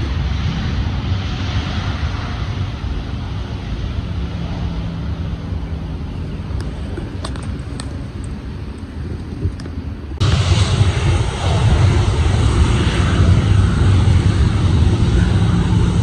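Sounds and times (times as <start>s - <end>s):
jet engines rumbling: 0.0s - 16.0s
wind on microphone: 0.0s - 16.0s.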